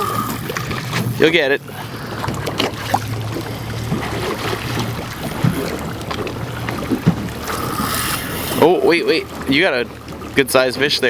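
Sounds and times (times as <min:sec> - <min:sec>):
boat engine idling: 0:00.0 - 0:11.0
water noise: 0:00.0 - 0:11.0
wind: 0:00.0 - 0:11.0.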